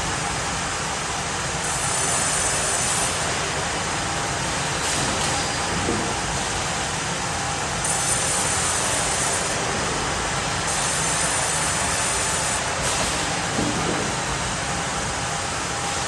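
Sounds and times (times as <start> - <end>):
sawmill machinery running: 1.4 - 16.0
high-pitched machine whine: 1.6 - 16.0.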